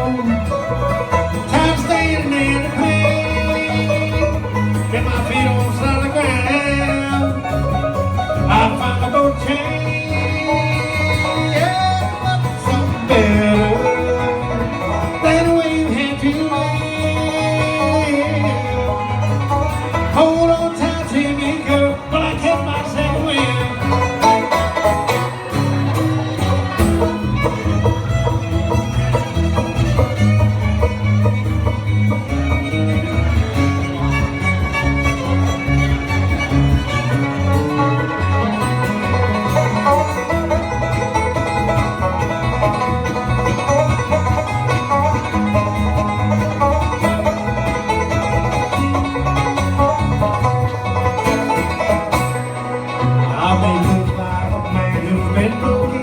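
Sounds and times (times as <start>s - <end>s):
banjo: 0.0s - 56.0s
bluegrass band playing: 0.0s - 56.0s
fiddle: 0.0s - 56.0s.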